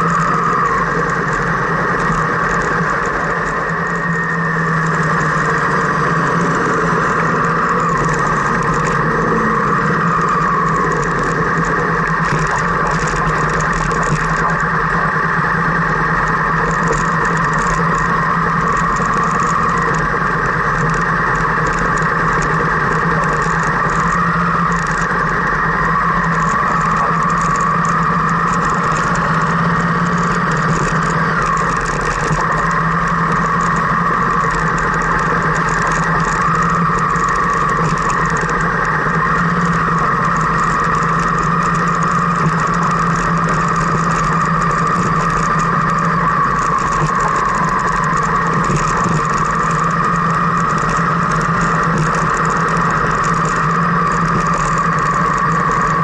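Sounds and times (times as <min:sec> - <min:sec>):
car engine and road noise: 0:00.0 - 0:56.0
tyres crunching over loose stones: 0:00.0 - 0:56.0.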